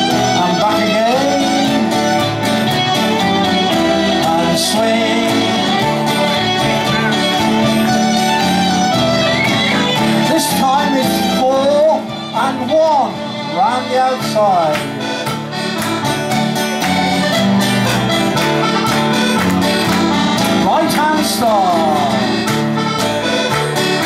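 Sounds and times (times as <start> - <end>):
acoustic guitars: 0.0 - 24.0
folk band playing dance tune: 0.0 - 24.0
piano accordion: 0.0 - 24.0.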